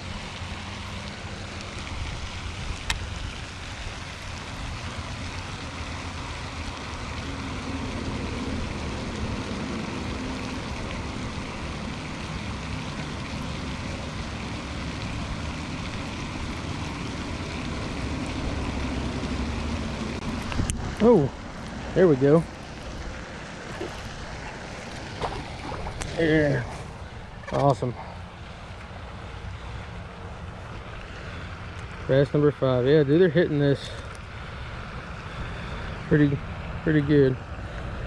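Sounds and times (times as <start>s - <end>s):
steady outdoor rushing noise: 0.0s - 38.0s.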